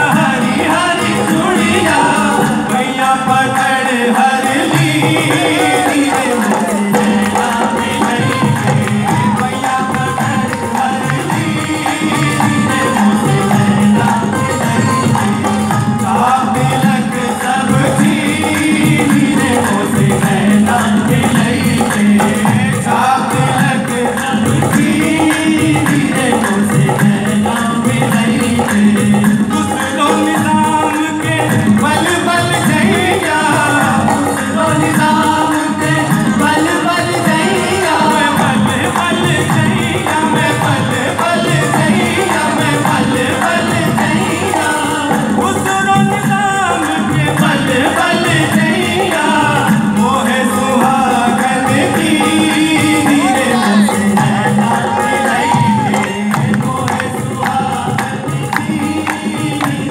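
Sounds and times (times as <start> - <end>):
group of men singing: 0.0 - 59.9
hand drum: 0.0 - 59.9
instrumental accompaniment: 0.0 - 59.9.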